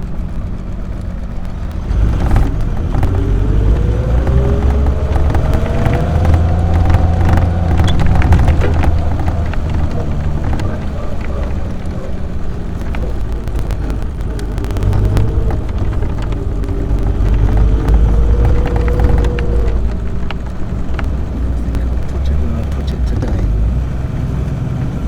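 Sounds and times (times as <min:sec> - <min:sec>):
car engine running: 0:00.0 - 0:25.0
light clicks and rattles: 0:00.0 - 0:25.0.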